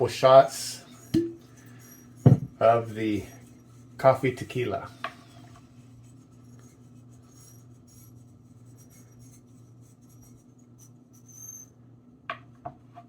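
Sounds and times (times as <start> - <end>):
bottle and glassware rubbing: 0.0 - 11.7
low electrical hum: 0.0 - 13.0.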